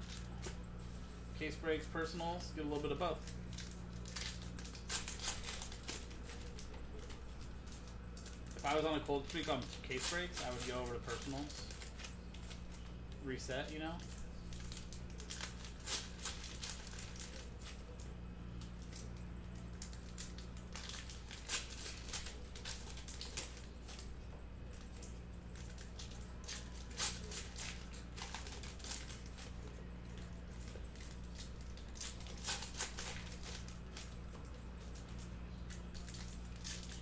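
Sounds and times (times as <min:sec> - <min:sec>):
steady low hum: 0:00.0 - 0:37.0
foil wrappers tearing and crinkling: 0:01.6 - 0:18.0, 0:18.7 - 0:24.1, 0:24.7 - 0:37.0.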